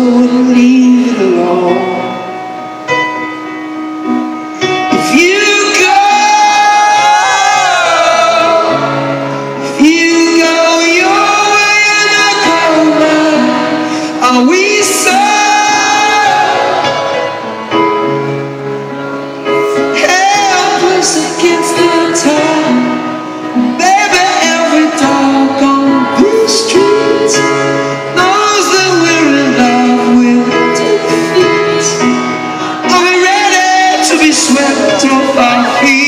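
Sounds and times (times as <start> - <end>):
grand piano: 0.0 - 36.0
person singing slow song: 0.0 - 36.0.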